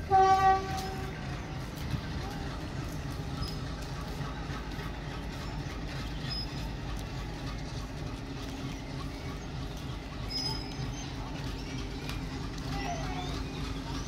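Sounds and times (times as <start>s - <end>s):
train droning on track: 0.0s - 14.0s.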